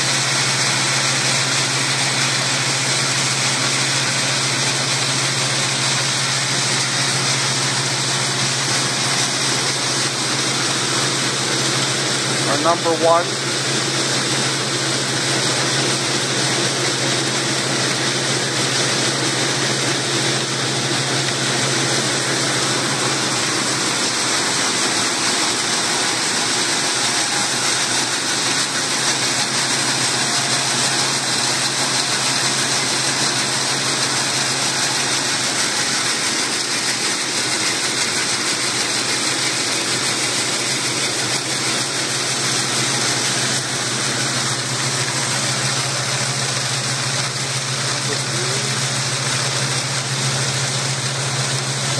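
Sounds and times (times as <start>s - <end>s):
seed separator machine running: 0.0s - 51.9s.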